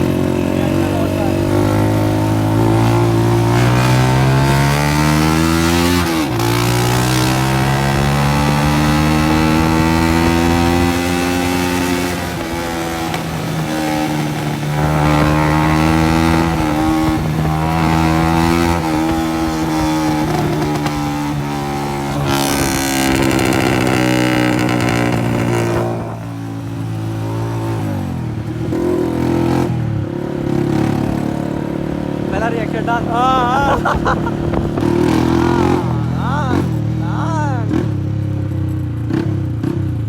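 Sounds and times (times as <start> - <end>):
motorcycle engine running loud: 0.0 - 40.0.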